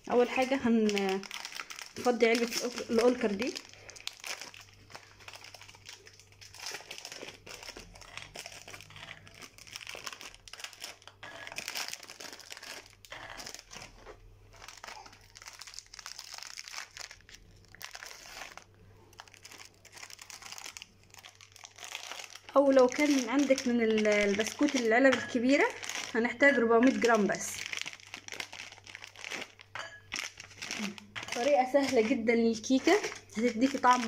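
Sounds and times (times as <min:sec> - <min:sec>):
plastic wrappers crinkling and tearing: 0:00.0 - 0:34.0.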